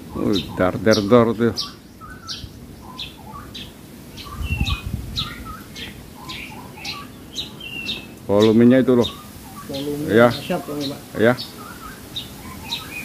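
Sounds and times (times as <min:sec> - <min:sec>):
bird chirping and whistling: 0:00.1 - 0:13.0.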